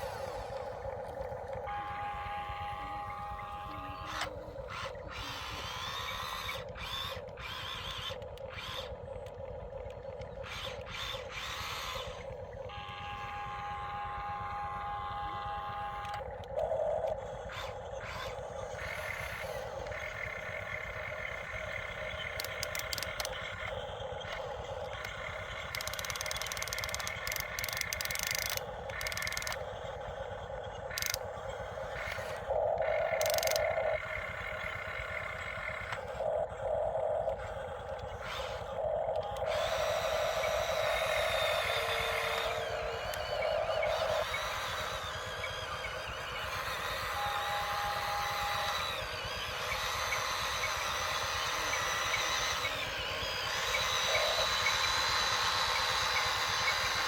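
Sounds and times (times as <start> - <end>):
excavator engine rumbling: 0.0 - 57.0
machine whine: 0.0 - 57.0.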